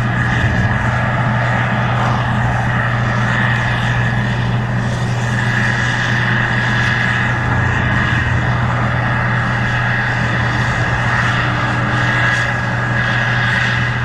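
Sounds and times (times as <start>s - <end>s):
combine harvester engine drone: 0.0s - 14.0s
steady high whine: 0.0s - 14.0s.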